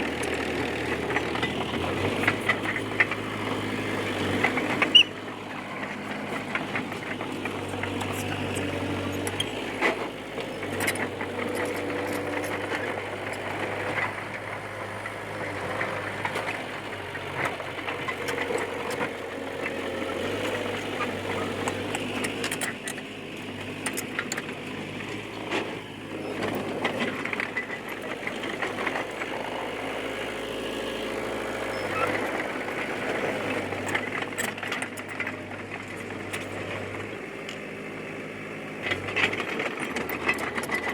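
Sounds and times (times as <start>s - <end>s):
tracks and blade clanking: 0.0s - 37.7s, 38.8s - 40.9s
bulldozer diesel engine: 0.0s - 40.9s.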